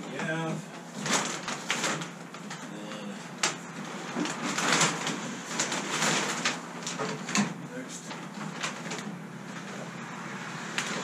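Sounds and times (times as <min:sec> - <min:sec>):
sailcloth rustling and crinkling: 0:00.0 - 0:11.0.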